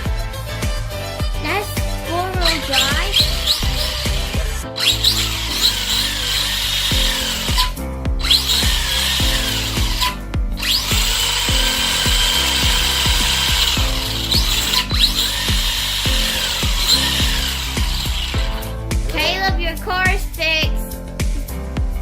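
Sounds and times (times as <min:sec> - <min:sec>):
electric motor whining: 0:00.0 - 0:19.0
music with steady beat: 0:00.0 - 0:22.0.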